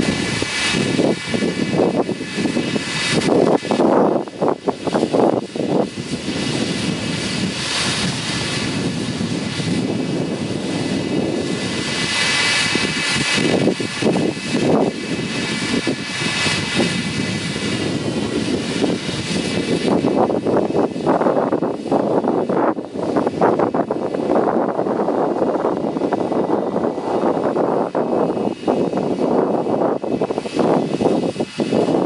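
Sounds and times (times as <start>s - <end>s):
corn harvester rumbling: 0.0s - 32.0s
high mechanical whine: 0.0s - 32.0s.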